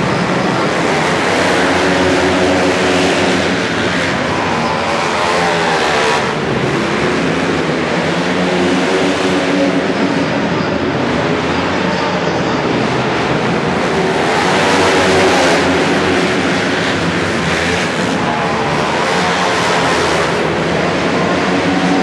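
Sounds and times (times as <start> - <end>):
motorcycles racing on dirt: 0.0 - 22.0.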